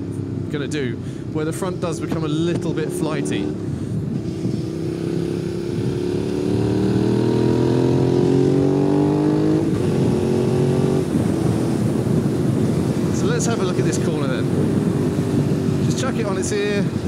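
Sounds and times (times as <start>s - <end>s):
motorcycle engine accelerating: 1.6s - 17.0s.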